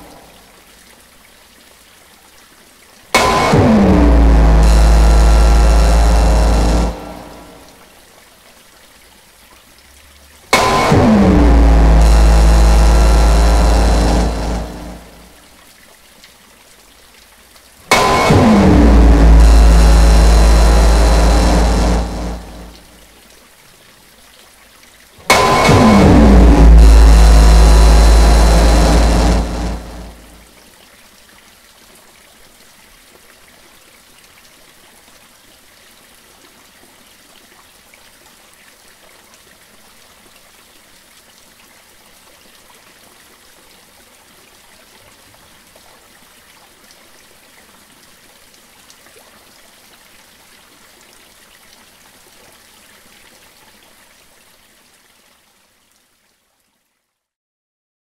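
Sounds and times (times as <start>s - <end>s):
trickle of running water: 0.0s - 3.4s, 4.2s - 10.8s, 11.7s - 17.9s, 19.2s - 25.3s, 26.8s - 57.3s.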